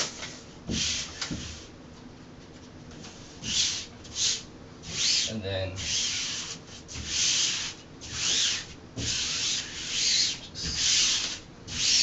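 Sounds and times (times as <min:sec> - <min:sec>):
wallpaper swishing rubbing strokes: 0:00.3 - 0:01.7, 0:03.0 - 0:12.0.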